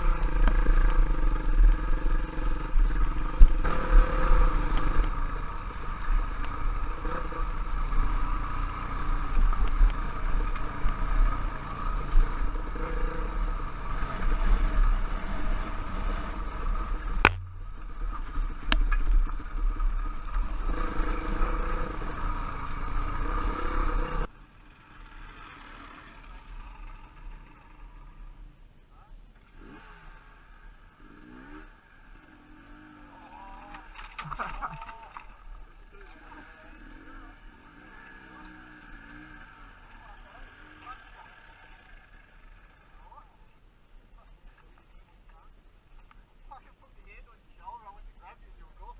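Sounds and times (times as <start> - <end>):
motorcycle engine revving: 0.0 - 28.4, 29.4 - 43.4.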